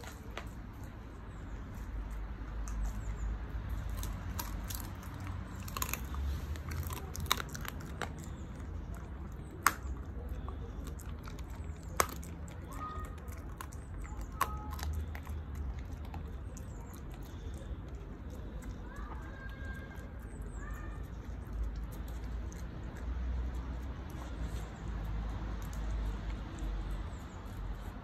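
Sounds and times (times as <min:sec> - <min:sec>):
puppy crunching bones: 0:00.0 - 0:28.0.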